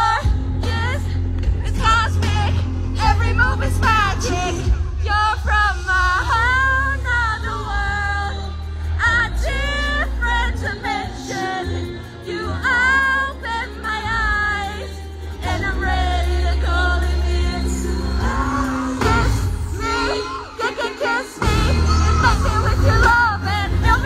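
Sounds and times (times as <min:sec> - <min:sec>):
deep steady bass: 0:00.0 - 0:20.1, 0:21.4 - 0:24.0
woman singing: 0:00.0 - 0:24.0.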